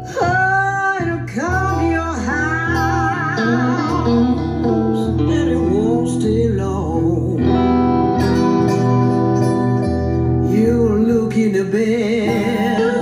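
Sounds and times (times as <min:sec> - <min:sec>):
guitar music over bass: 0:00.0 - 0:13.0.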